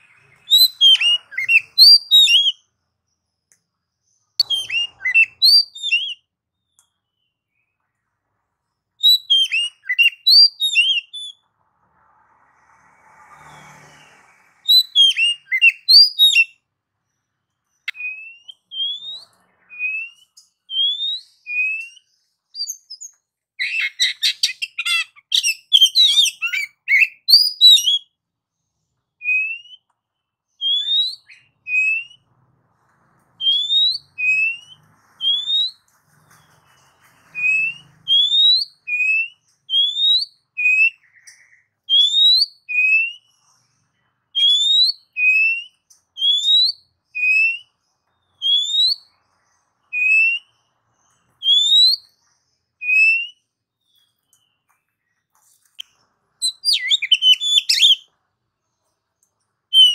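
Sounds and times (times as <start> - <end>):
bird singing whistled notes: 0.0 - 3.4, 4.1 - 7.8, 9.0 - 11.4, 14.6 - 16.7, 17.6 - 28.2, 29.2 - 32.3, 33.4 - 43.6, 44.4 - 55.1, 55.8 - 58.1, 59.7 - 59.9.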